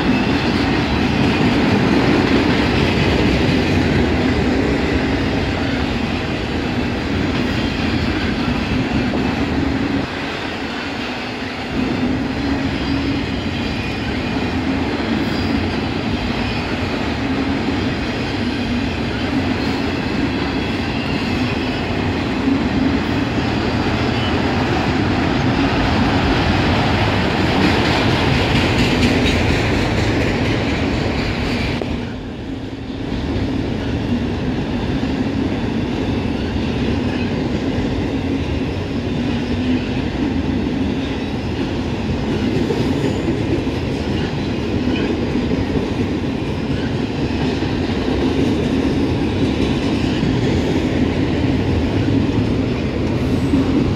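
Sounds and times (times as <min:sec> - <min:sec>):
steel train wheels on rails: 0:00.0 - 0:53.9.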